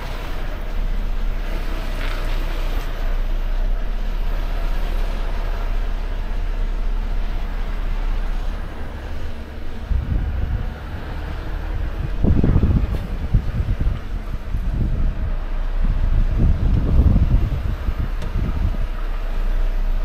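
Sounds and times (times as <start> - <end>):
truck diesel engine rumble: 0.0 - 20.0.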